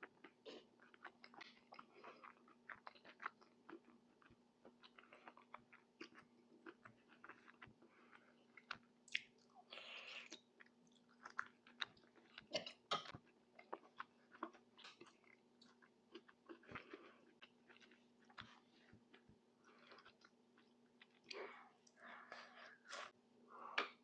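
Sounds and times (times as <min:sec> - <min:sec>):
chewing with wet smacks: 0:00.0 - 0:09.6, 0:10.2 - 0:22.0.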